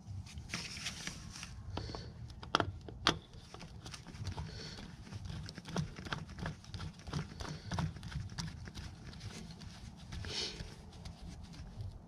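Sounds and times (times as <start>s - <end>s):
gloved hand scuffs and rustles: 0.0s - 1.8s, 3.5s - 12.0s
low steady hum: 0.0s - 12.0s.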